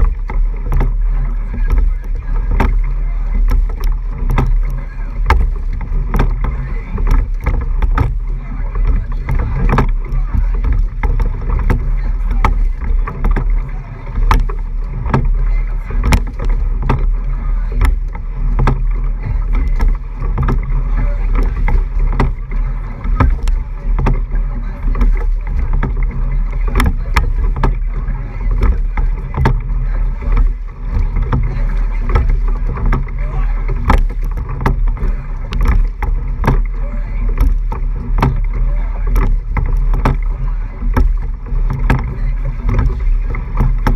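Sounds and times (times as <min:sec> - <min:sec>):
sharp clicks and knocks: 0:00.0 - 0:43.9
water rushing along hull: 0:00.0 - 0:43.9
wind rumble on microphone: 0:00.0 - 0:43.9.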